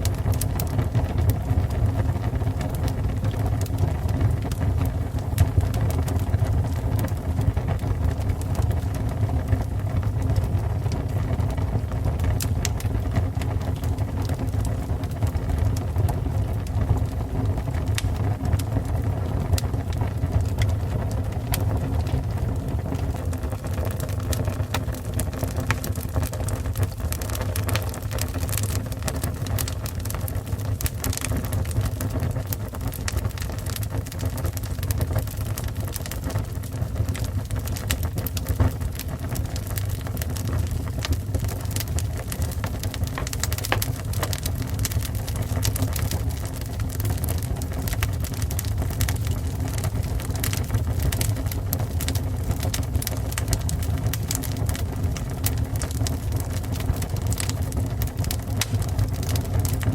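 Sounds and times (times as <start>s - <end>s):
fire crackling and popping: 0.0s - 59.9s
fire rumbling: 0.0s - 59.9s.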